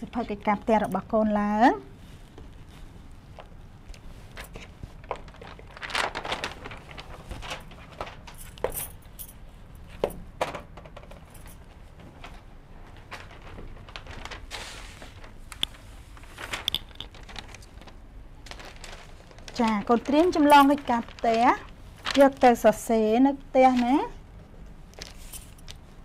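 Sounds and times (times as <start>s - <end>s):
paper rustling: 1.9s - 8.9s, 11.2s - 24.1s, 25.0s - 26.0s.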